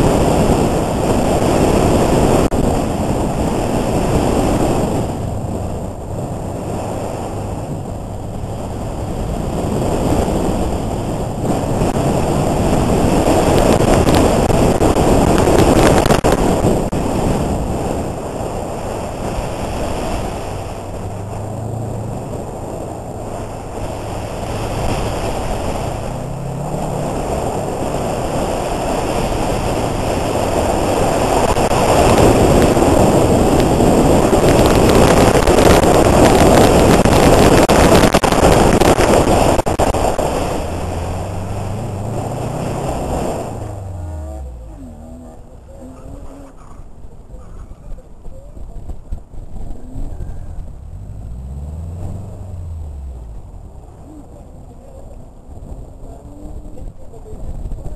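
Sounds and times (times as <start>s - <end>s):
car engine running: 0.0s - 47.2s, 49.0s - 57.2s
wind rushing over microphone: 0.0s - 57.9s.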